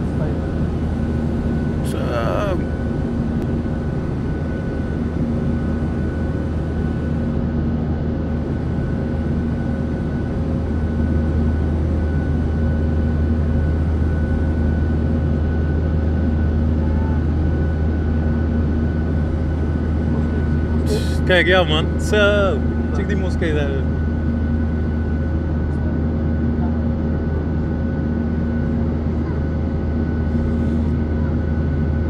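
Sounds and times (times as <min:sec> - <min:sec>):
jet engine drone and rushing air: 0:00.0 - 0:32.0.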